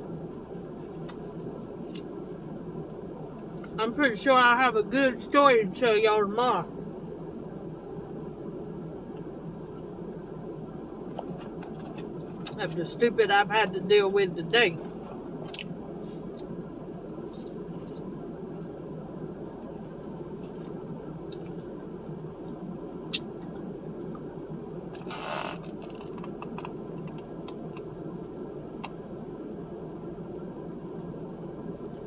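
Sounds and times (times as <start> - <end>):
low background noise: 0.0 - 32.0.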